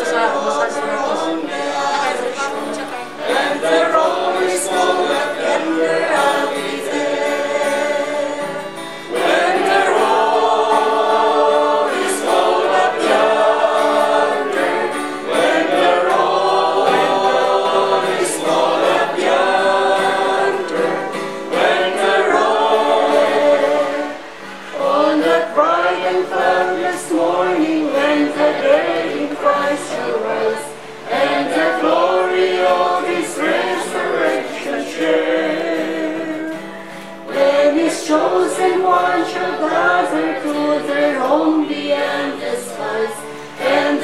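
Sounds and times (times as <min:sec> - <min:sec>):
choir singing a hymn: 0:00.0 - 0:44.0.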